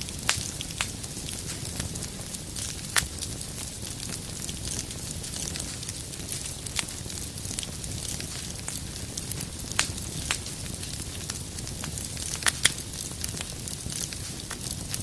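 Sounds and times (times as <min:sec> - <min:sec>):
logs crackling and popping: 0:00.0 - 0:15.0
wood fire hissing and rumbling: 0:00.0 - 0:15.0.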